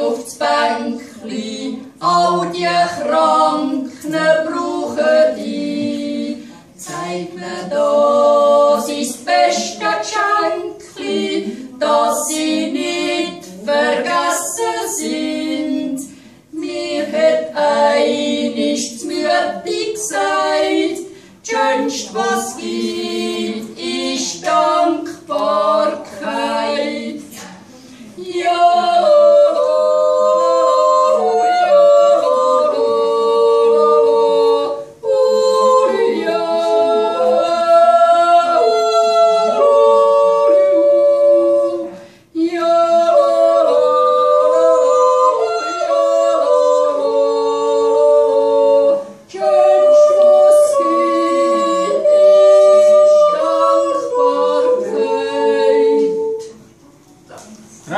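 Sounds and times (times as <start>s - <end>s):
women yodeling in harmony: 0.0s - 27.4s, 28.2s - 56.6s.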